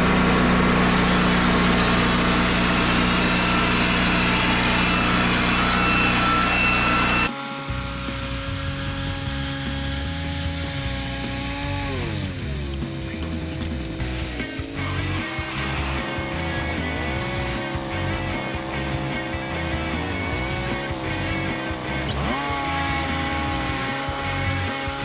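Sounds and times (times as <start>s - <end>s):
band sawmill sawing timber: 0.0s - 25.0s.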